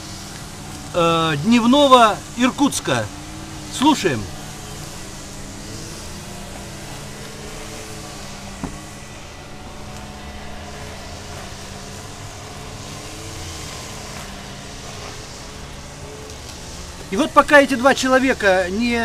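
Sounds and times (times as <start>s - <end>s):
string trimmer engines whining: 0.0s - 19.0s.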